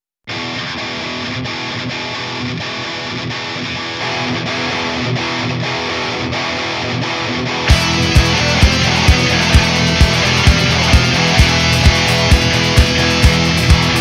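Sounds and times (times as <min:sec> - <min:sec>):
distorted electric guitar riff: 0:00.3 - 0:14.0.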